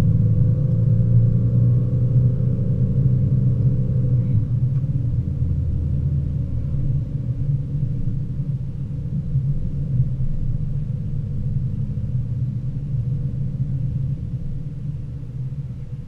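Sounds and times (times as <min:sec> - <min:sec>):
car engine drone: 0:00.0 - 0:16.0
road rumble: 0:00.0 - 0:16.0.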